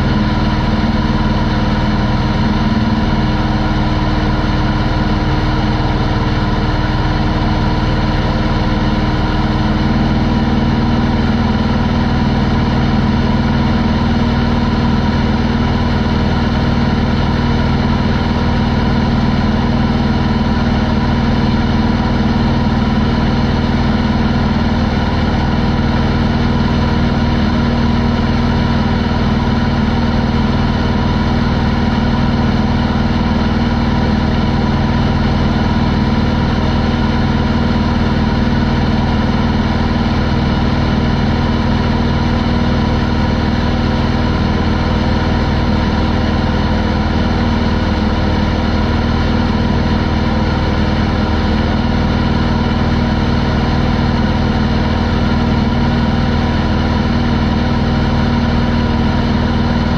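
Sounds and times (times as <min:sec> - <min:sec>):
airplane engine and propeller droning: 0:00.0 - 0:59.9.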